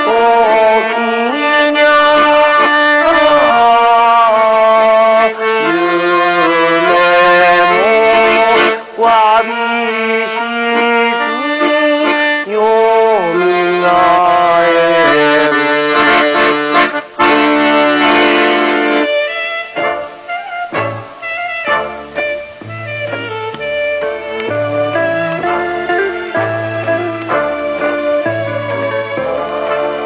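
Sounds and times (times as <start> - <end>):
accordion music: 0.0 - 30.0.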